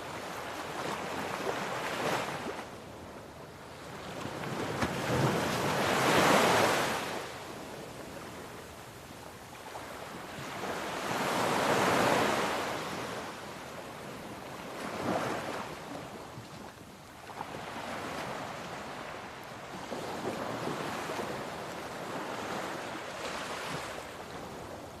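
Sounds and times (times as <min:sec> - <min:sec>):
gentle sea waves: 0:00.0 - 0:25.0.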